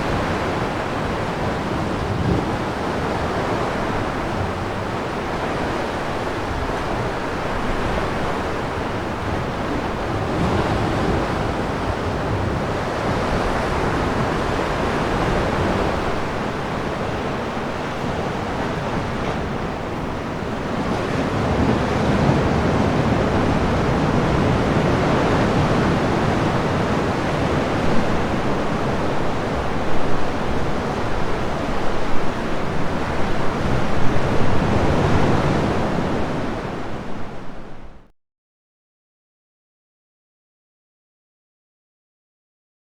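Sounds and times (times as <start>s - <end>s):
sea waves surging into cave: 0.0s - 38.1s.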